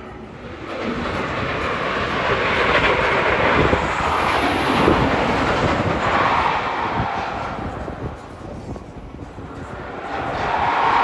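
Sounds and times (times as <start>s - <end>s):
roller coaster train rushing: 0.0s - 11.0s.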